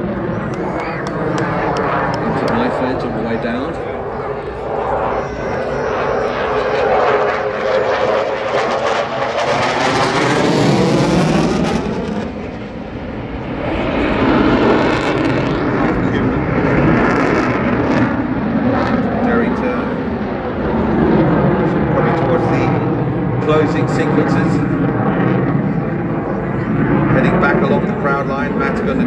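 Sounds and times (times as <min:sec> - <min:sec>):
jet flying past: 0:00.0 - 0:29.0.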